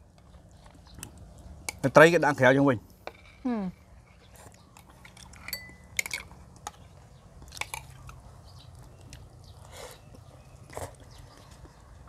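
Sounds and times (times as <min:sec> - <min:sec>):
people chewing: 0:00.0 - 0:02.4, 0:03.9 - 0:12.0.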